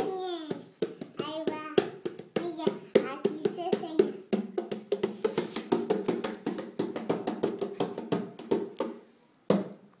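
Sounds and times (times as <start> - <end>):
hand drumming on plastic buckets: 0.0 - 9.9.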